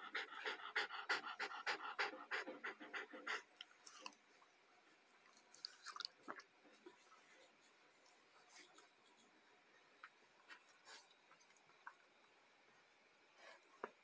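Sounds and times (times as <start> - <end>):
faint small sounds: 2.3 - 14.0.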